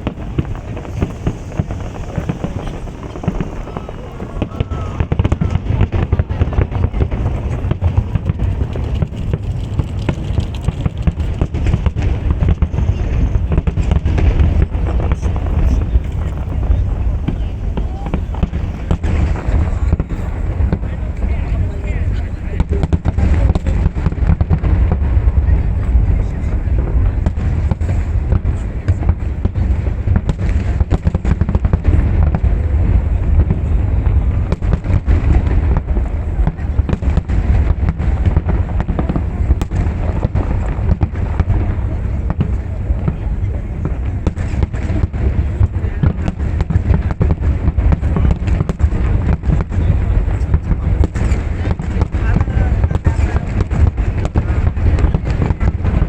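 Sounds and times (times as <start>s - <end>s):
deep fireworks booms: 0.0s - 56.0s
deep rumble: 0.0s - 56.0s
fireworks sharp bangs: 0.0s - 56.0s.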